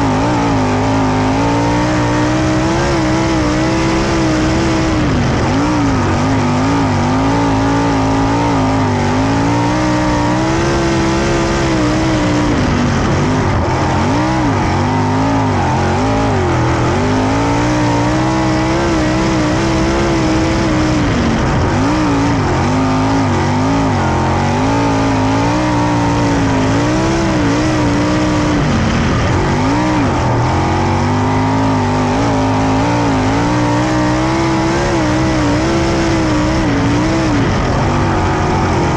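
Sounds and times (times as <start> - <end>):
racing car engine: 0.0 - 38.9.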